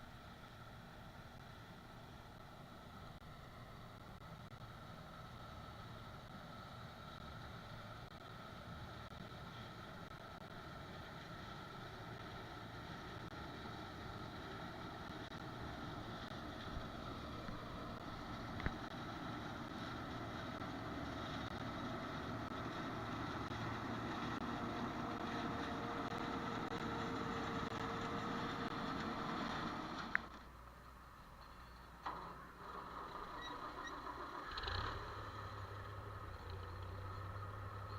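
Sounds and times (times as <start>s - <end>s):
harvest machinery engine drone: 0.1s - 37.9s.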